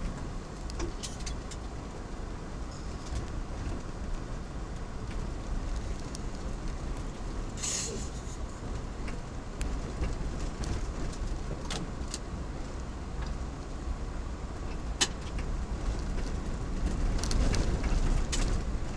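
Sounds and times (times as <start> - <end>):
engine and tyres rumbling: 0.0 - 18.9.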